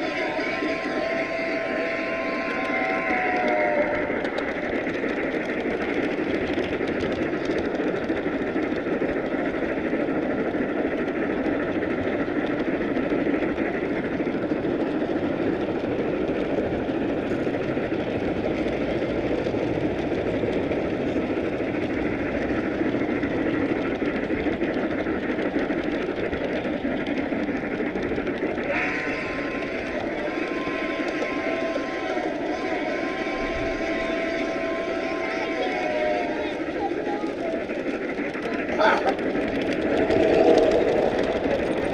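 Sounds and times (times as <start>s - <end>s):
model train wheels on rails: 0.0s - 41.9s.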